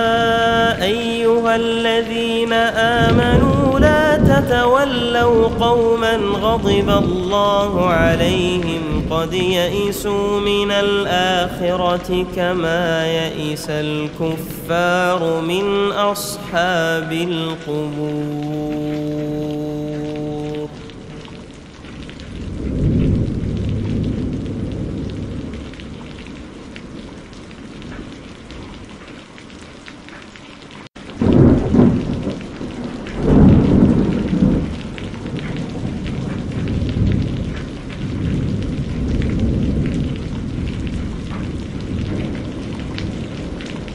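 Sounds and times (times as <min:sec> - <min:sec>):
steady rain: 0:00.0 - 0:43.9
thunder rolling: 0:02.6 - 0:15.0, 0:18.2 - 0:29.1, 0:31.1 - 0:43.9.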